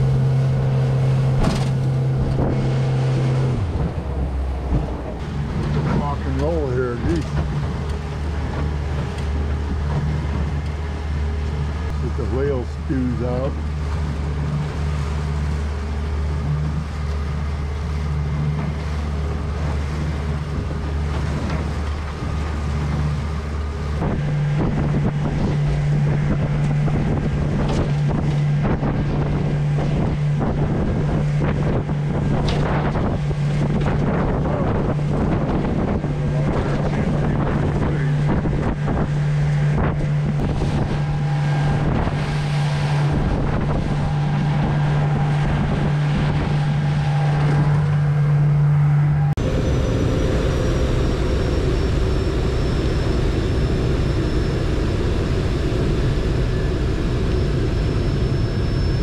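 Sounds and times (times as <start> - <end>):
hull slapping through waves: 0.0 - 59.0
outboard motor running: 0.0 - 59.0
wind buffeting microphone: 0.0 - 59.0.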